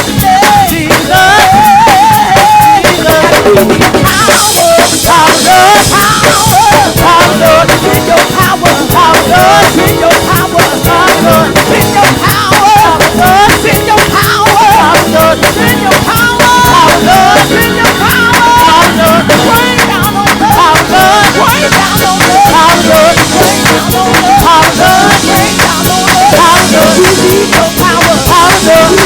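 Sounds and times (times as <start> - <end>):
fast busy drum beat: 0.0 - 29.0
live gospel band: 0.0 - 29.0
singing: 0.0 - 29.0.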